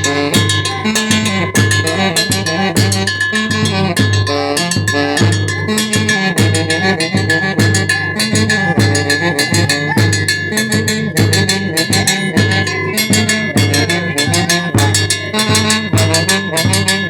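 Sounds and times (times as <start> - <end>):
brass instruments: 0.0 - 17.0
driving drum beat: 0.0 - 17.0.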